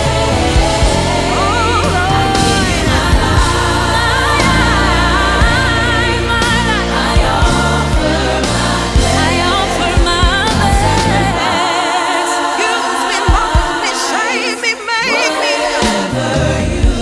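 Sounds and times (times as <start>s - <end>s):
worship singing over a band: 0.0s - 17.0s.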